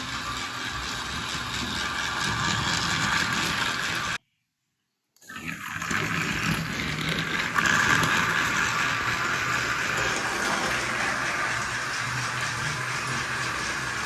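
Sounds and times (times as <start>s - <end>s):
toy train motor whirring: 0.0s - 4.2s, 5.3s - 14.0s.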